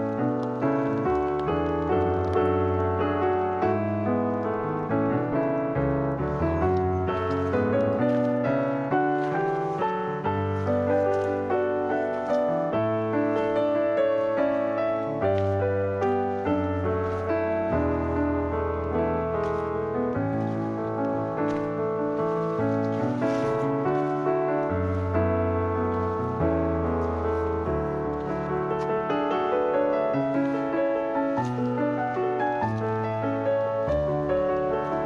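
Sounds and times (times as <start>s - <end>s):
piano music: 0.0s - 35.0s.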